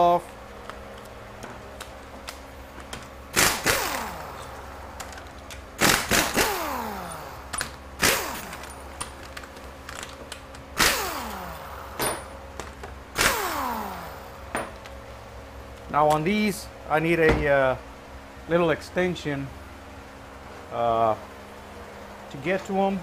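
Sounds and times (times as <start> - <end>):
shop fan humming: 0.0 - 23.0.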